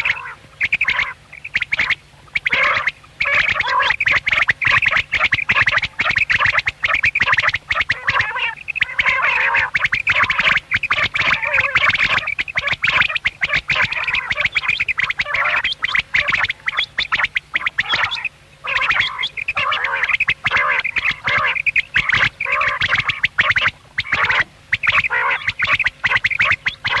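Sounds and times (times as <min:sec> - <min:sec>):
quail calling: 0:00.0 - 0:27.0.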